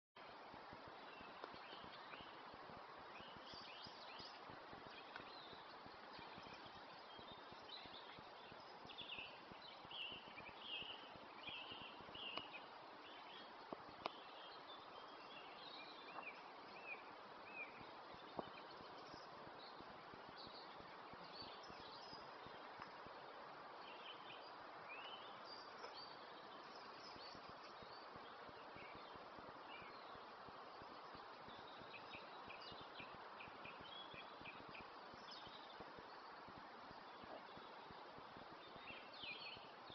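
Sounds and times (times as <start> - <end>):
background hiss: 0.2 - 39.9
songbirds singing: 0.2 - 39.9.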